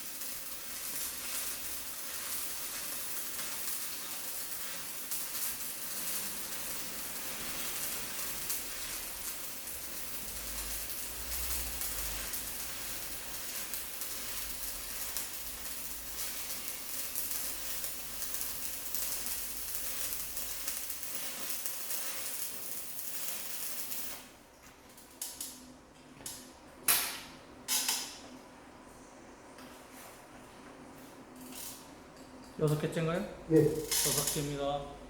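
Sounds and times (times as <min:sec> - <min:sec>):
welding arc crackling and sizzling: 0:00.0 - 0:27.0, 0:30.6 - 0:35.0.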